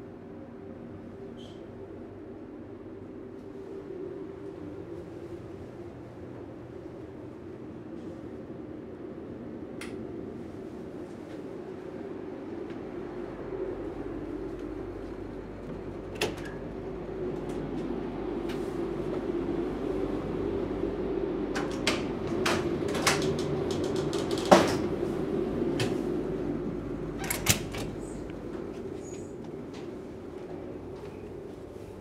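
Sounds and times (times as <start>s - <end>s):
ferry machinery hum: 0.0s - 32.0s.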